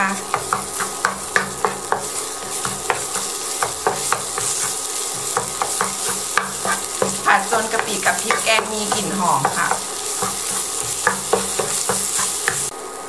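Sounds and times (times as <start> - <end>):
wooden spatula scraping a pan: 0.0 - 12.7
hot oil sizzling: 0.0 - 13.0.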